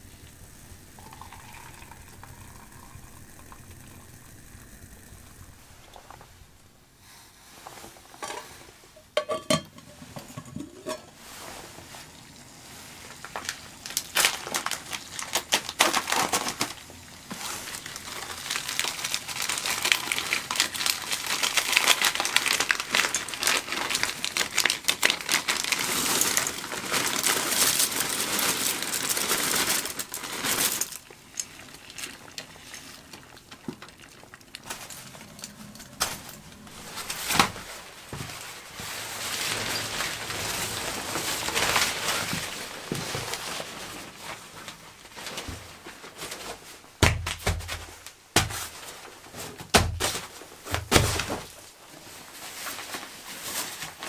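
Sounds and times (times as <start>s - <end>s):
crinkly rustling of gear: 9.8s - 54.0s.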